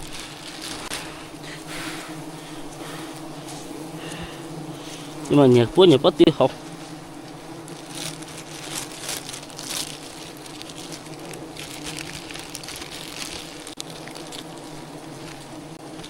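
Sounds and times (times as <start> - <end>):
short rustling noises: 0.0 - 5.4, 6.7 - 15.6
bees buzzing: 0.0 - 16.0.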